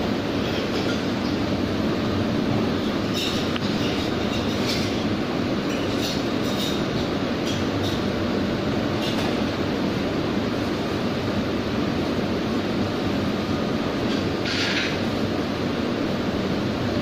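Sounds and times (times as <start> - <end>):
ventilation hood rumbling: 0.0 - 17.0.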